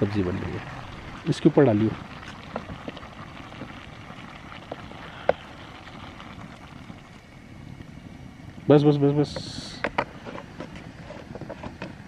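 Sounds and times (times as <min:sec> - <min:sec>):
water pouring into pot: 0:00.0 - 0:09.8
gas burner hiss: 0:00.0 - 0:12.0.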